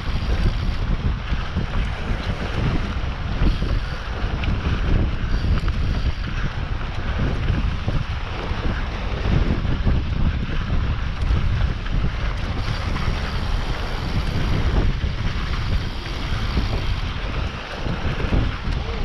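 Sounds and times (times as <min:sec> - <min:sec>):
bike rattling over rough trail: 0:00.0 - 0:19.0
wind buffeting microphone: 0:00.0 - 0:19.0.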